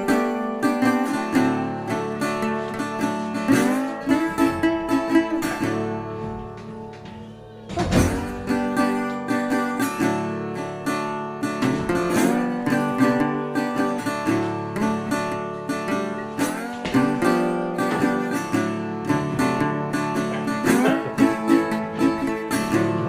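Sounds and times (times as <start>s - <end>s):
acoustic guitar music: 0.0s - 23.0s.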